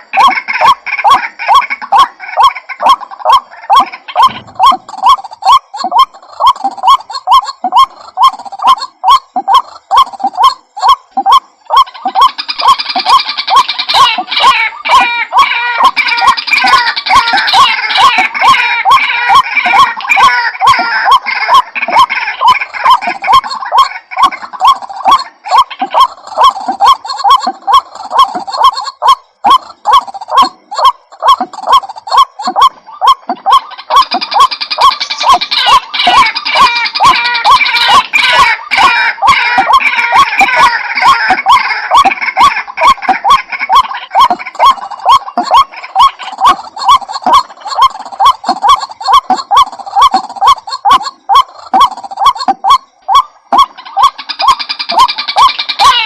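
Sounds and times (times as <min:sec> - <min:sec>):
high busy bird chatter: 0:00.0 - 0:56.0
waterhen calling: 0:00.0 - 0:56.0.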